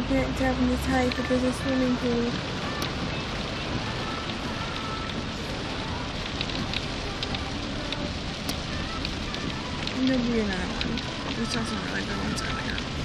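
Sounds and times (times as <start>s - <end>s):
rain hiss: 0.0s - 13.0s
raindrop ticks: 0.0s - 13.0s.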